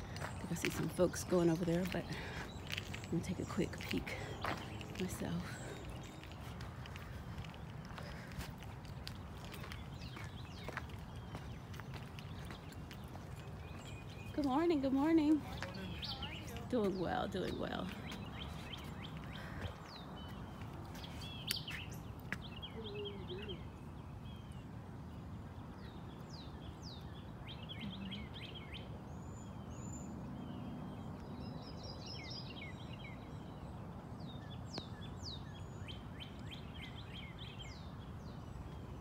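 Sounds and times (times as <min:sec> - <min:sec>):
low outdoor rush: 0:00.0 - 0:39.0
songbirds chirping and trilling: 0:00.0 - 0:39.0.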